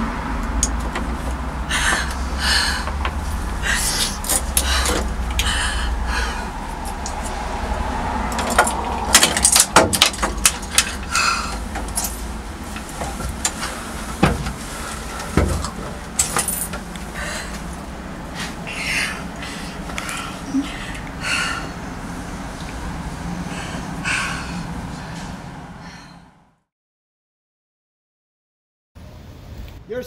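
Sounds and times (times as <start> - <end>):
low rumble of street traffic: 0.0 - 26.7, 29.0 - 30.0.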